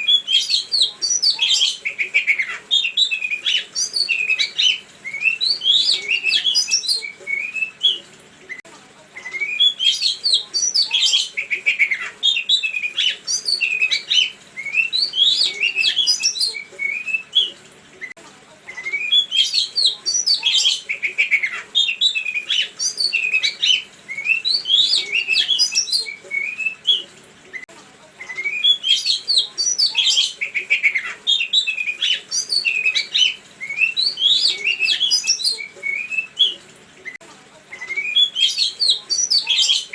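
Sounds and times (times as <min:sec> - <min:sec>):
songbird chirping and whistling: 0:00.0 - 0:39.9.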